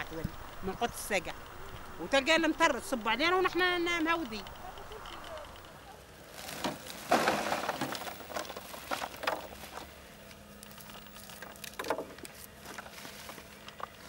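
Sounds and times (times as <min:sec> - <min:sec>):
faint steady hum: 0:00.0 - 0:14.0
plants rustling and crinkling: 0:00.0 - 0:14.0.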